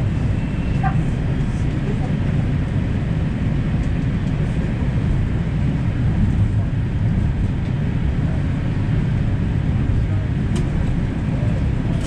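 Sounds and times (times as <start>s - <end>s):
light rail car rumbling: 0.0s - 12.0s.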